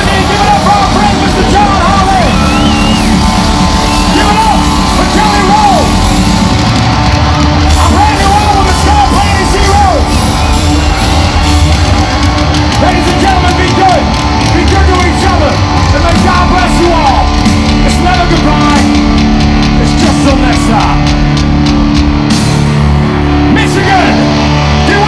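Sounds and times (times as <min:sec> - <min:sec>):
bass guitar: 0:00.0 - 0:25.0
distorted electric guitars: 0:00.0 - 0:25.0
drums: 0:00.0 - 0:25.0.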